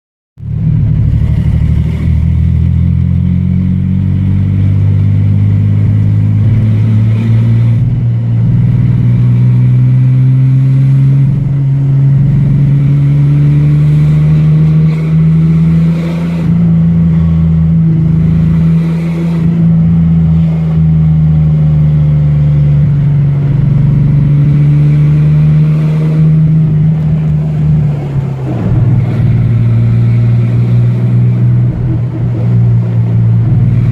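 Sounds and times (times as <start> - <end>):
misfiring engine running: 0.4 - 33.9.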